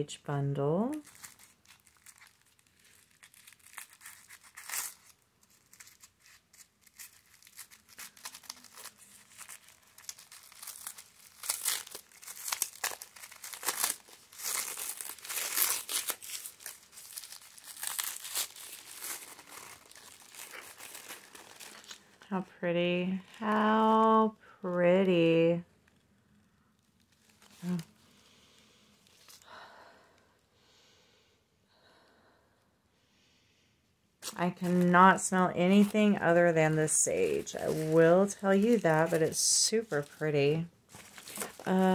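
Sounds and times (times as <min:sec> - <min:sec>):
tissue paper crinkling and tearing: 0:00.8 - 0:22.5, 0:23.1 - 0:26.1, 0:26.7 - 0:28.2, 0:28.9 - 0:29.4, 0:34.2 - 0:41.9.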